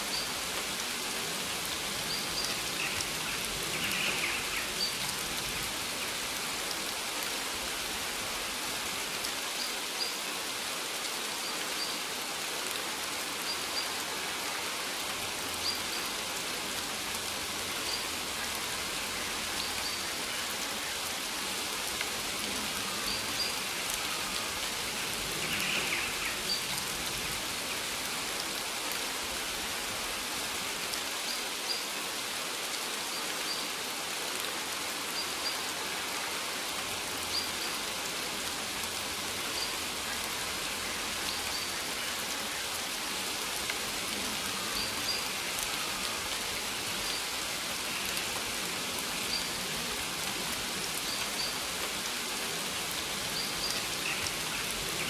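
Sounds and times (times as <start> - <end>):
rain falling on plants: 0.0 - 55.0.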